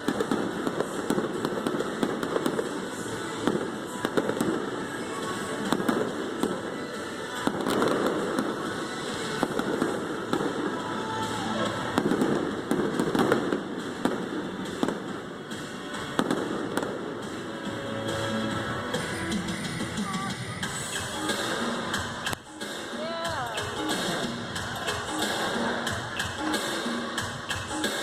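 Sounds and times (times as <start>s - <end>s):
fireworks bangs and crackling: 0.0s - 28.0s
music on loudspeakers: 0.0s - 28.0s.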